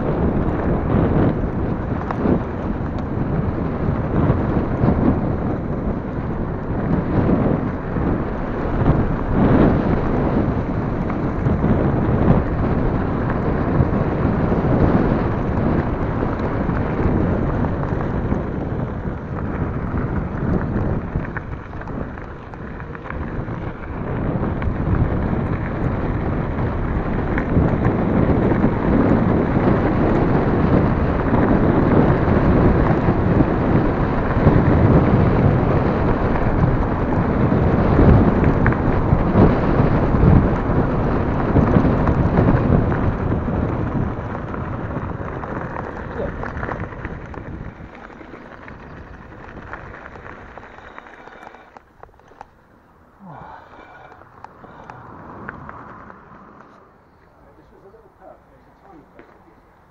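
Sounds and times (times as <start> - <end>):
tyres rumbling over gravel: 0.0 - 59.9
wind buffeting microphone: 0.0 - 59.9.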